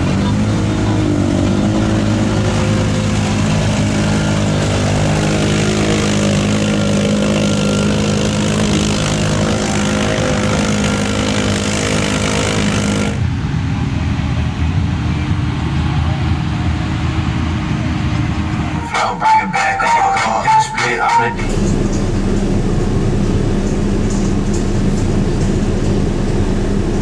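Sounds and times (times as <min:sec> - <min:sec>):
loud rushing noise: 0:00.0 - 0:27.0
off-road vehicle engine running hard: 0:00.0 - 0:27.0.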